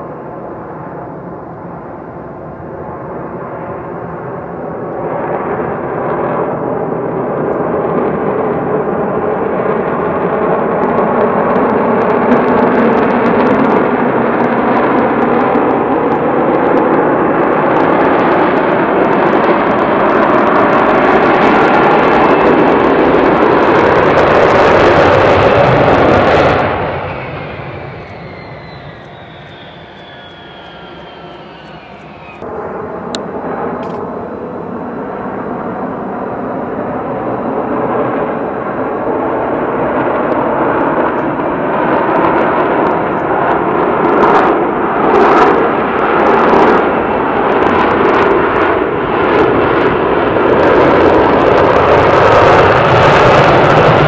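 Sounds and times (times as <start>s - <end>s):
falling jet whine: 0.0s - 54.0s
jet roar with crackles: 0.0s - 54.0s.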